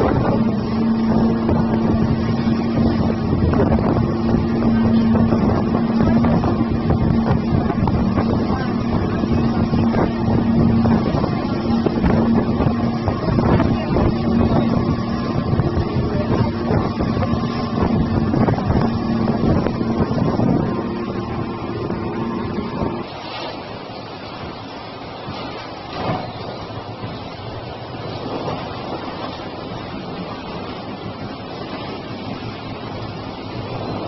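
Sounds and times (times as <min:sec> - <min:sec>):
motorboat engine humming: 0:00.0 - 0:34.0
rushing water: 0:00.0 - 0:34.0
wind buffeting microphone: 0:00.0 - 0:34.0.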